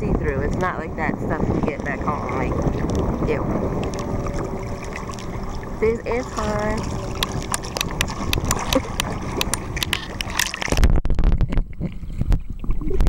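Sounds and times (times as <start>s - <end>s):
muffled underwater rumble: 0.0s - 13.0s
underwater thumps: 0.0s - 13.0s
water splashing on microphone: 0.0s - 13.0s.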